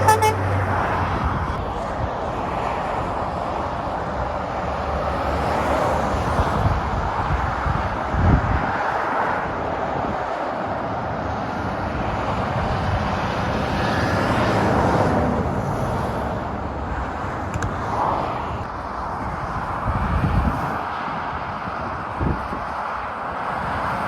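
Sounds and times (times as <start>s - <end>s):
motorway traffic passing: 0.0s - 24.0s.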